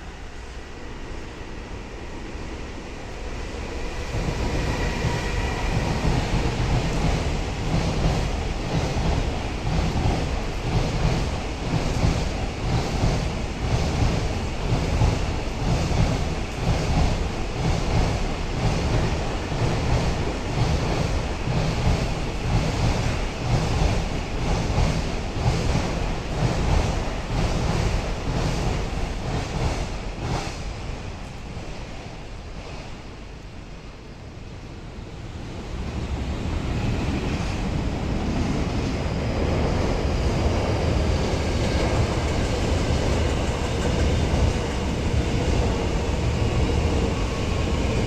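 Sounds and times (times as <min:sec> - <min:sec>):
train rumbling on tracks: 0:00.0 - 0:48.0.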